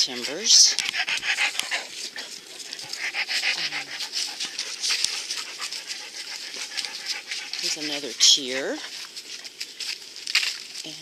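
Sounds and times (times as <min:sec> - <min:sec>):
dog panting: 0:00.0 - 0:09.6.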